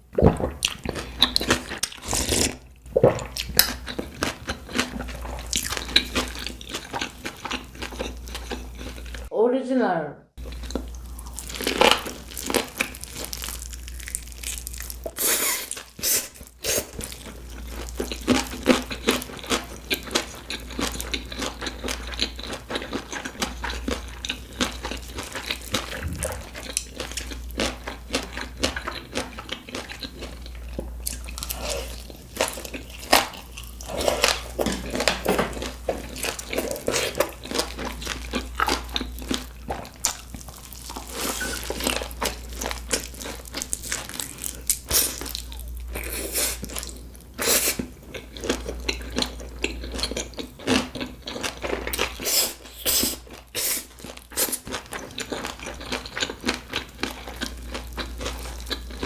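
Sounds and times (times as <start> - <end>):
crunchy biting and chewing: 10.4 - 59.0.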